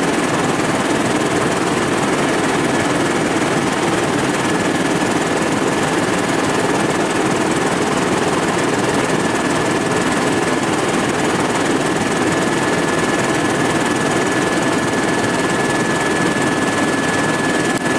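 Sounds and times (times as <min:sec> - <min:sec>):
helicopter engine and rotor din: 0:00.0 - 0:17.9.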